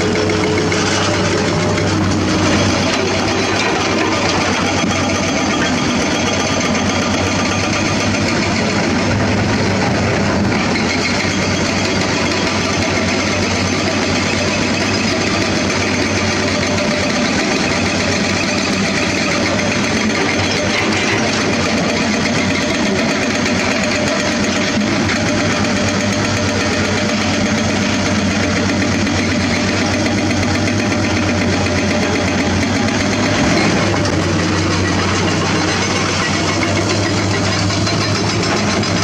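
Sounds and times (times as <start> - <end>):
dump truck engine running: 0.0 - 39.0
excavator diesel engine running: 0.0 - 39.0.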